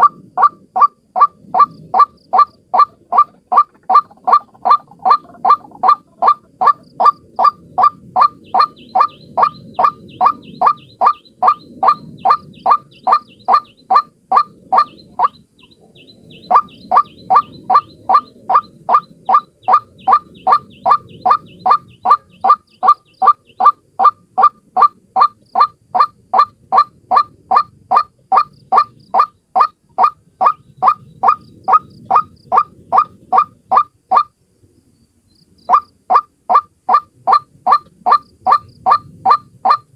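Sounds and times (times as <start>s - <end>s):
bird repeating loud kwak call: 0.0s - 34.3s, 35.7s - 39.9s.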